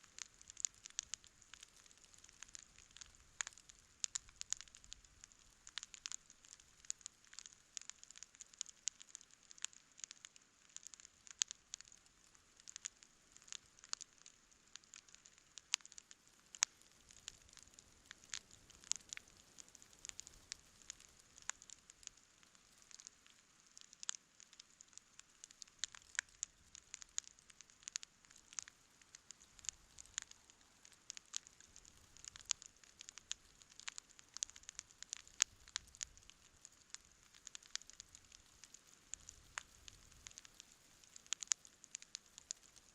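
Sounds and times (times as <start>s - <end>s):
campfire crackling and popping: 0.0s - 42.9s
faint steady hiss: 0.0s - 42.9s.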